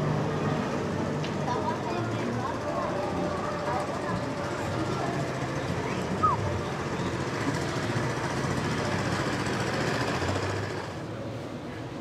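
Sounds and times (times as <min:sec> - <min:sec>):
street traffic: 0:00.0 - 0:12.0
vehicle engine rumbling: 0:00.0 - 0:12.0.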